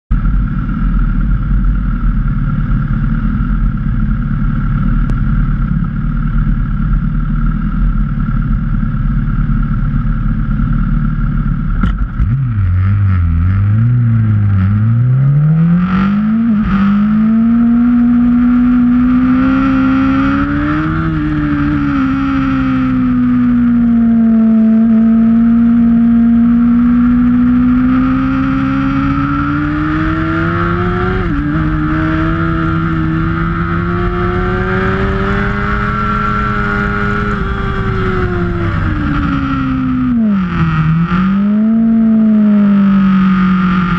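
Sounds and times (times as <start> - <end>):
motorcycle engine idling and revving: 0.1 - 43.9.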